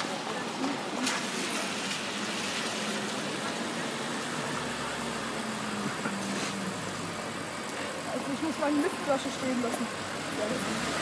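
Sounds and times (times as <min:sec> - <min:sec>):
car engine low hum: 0:00.0 - 0:11.0.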